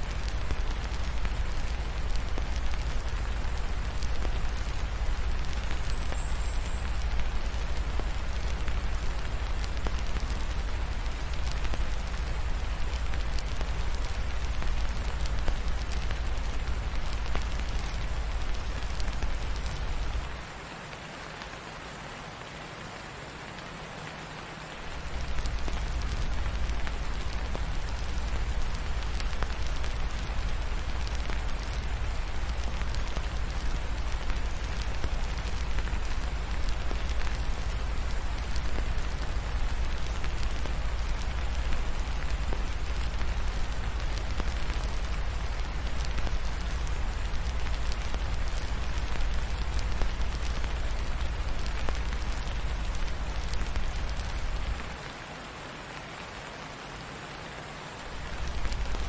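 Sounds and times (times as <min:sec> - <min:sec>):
rain hiss: 0:00.0 - 0:59.0
wood fire crackles: 0:00.0 - 0:59.0.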